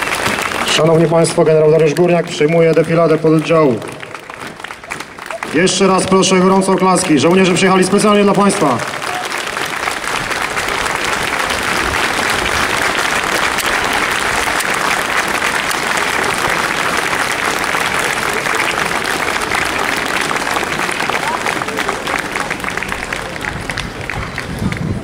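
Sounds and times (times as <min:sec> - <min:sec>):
crowd applauding: 0:00.0 - 0:25.0.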